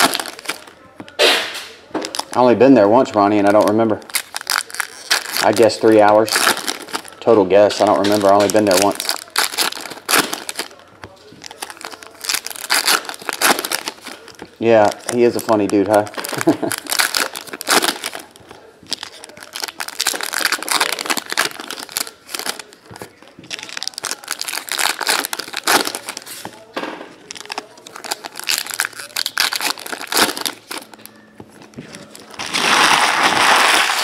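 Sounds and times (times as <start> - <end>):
foil wrappers crinkling and tearing: 0.0 - 34.0.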